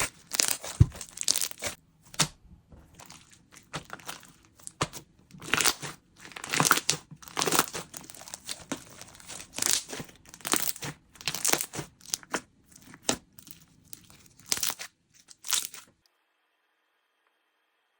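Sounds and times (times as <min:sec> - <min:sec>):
slime squishing by hand: 0:00.0 - 0:15.9.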